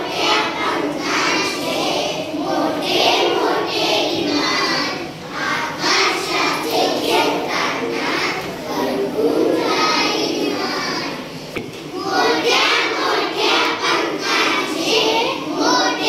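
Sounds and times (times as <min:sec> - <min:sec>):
children chanting in unison: 0:00.0 - 0:16.0.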